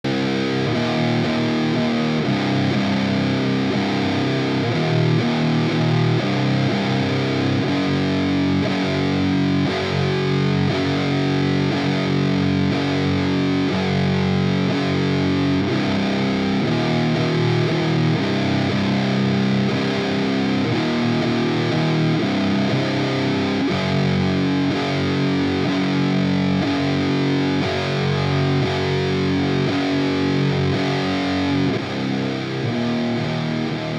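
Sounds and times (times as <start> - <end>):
fuzzed electric guitar metal riffs: 0.0 - 33.9.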